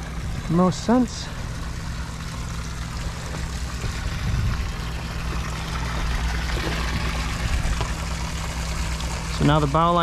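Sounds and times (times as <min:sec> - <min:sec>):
low mechanical hum: 0:00.0 - 0:10.0
water trickling and splashing: 0:00.0 - 0:10.0.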